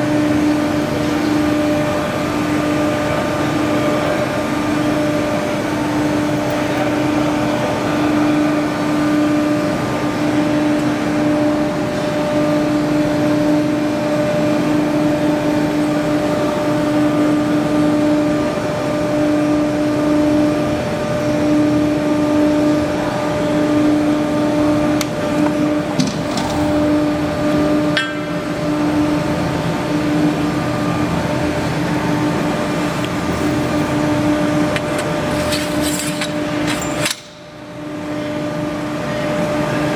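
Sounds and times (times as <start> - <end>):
tube bending machine humming: 0.0 - 39.9.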